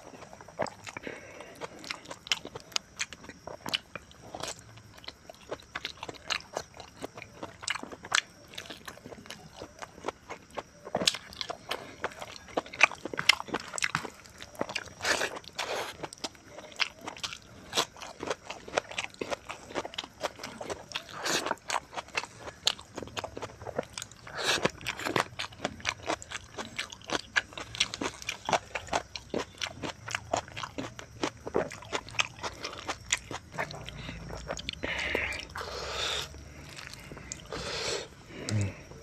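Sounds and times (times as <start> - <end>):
chewing and crunching food: 0.0 - 39.0.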